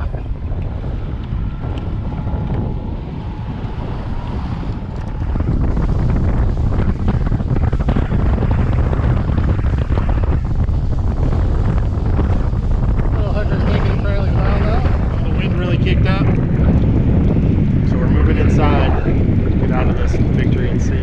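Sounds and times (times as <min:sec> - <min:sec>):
outboard motor drone: 0:00.0 - 0:21.0
water rushing along hull: 0:00.0 - 0:21.0
wind buffeting microphone: 0:00.0 - 0:21.0.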